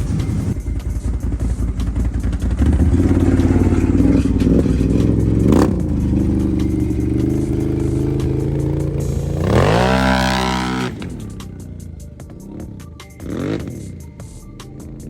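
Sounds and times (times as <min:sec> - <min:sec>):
exhaust crack: 0:00.0 - 0:14.0
motorcycle engine revving: 0:00.0 - 0:15.0.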